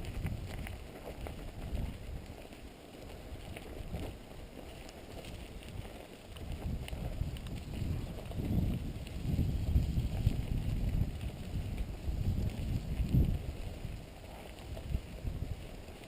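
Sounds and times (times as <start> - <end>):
bike clicks and rattles: 0.0 - 16.0
mountain bike rolling on dirt: 0.0 - 16.0
wind buffeting microphone: 0.0 - 16.0.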